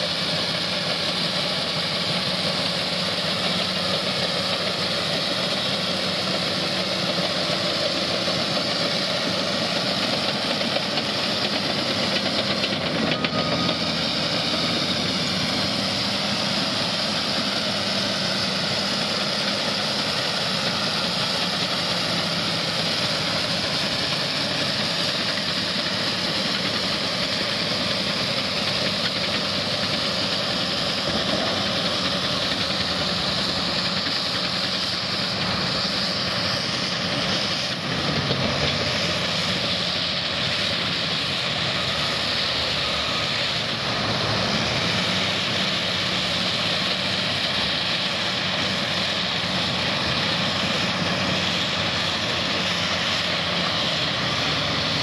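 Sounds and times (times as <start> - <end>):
dozer diesel engine running: 0.0 - 55.0.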